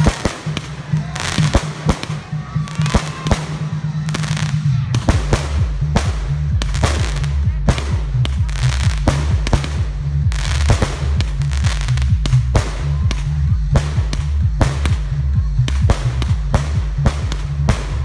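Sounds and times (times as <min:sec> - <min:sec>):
fireworks bangs: 0:00.0 - 0:15.1
music with bass line: 0:00.0 - 0:18.0.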